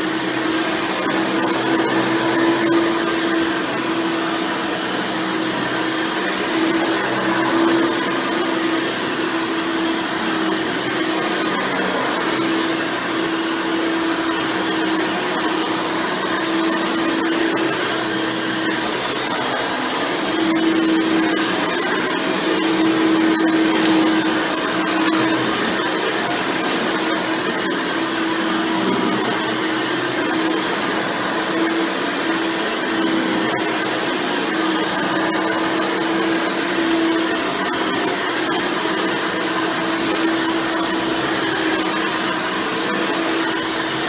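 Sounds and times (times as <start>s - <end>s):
upright vacuum running: 0.0s - 44.0s.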